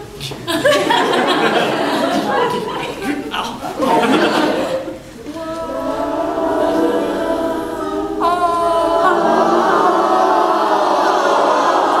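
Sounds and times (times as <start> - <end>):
group of people chanting: 0.6 - 12.0.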